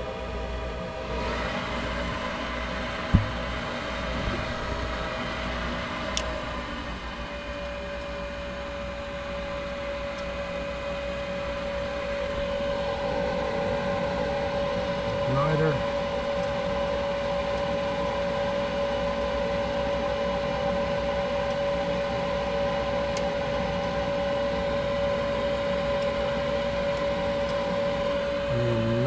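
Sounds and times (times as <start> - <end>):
furnace inducer motor running: 0.0 - 29.0.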